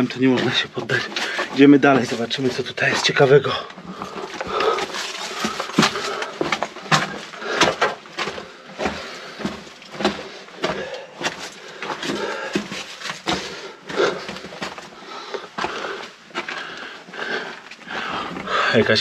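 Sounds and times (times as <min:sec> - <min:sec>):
footsteps walking: 0:00.0 - 0:19.0.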